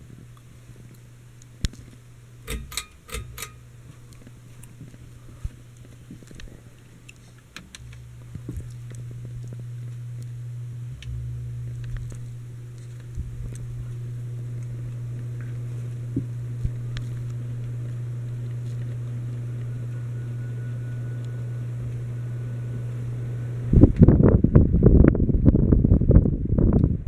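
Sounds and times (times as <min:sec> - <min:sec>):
airflow buffeting microphone: 0:00.0 - 0:27.0
ceiling fan motor hum: 0:00.0 - 0:27.0.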